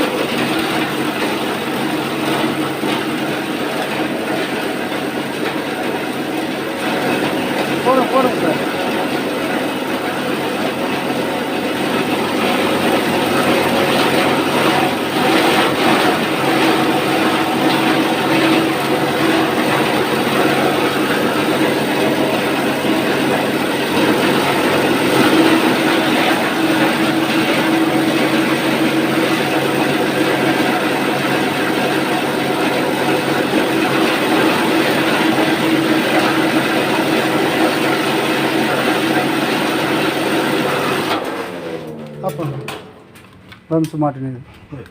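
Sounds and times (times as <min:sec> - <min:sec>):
plastic grinder running: 0:00.0 - 0:43.8.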